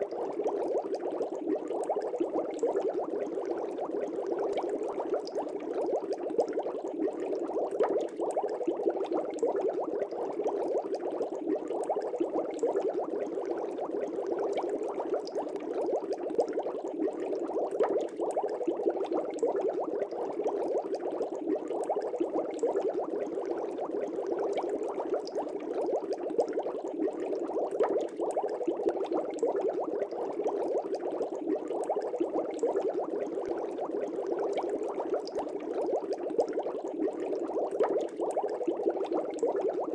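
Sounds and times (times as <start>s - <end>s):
air bubbles in fish tank: 0.0s - 39.9s.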